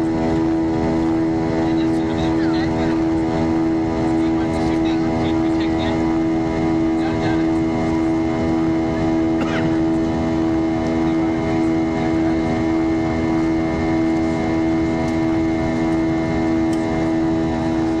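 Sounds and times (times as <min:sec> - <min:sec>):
airliner engine drone in cabin: 0:00.0 - 0:18.0.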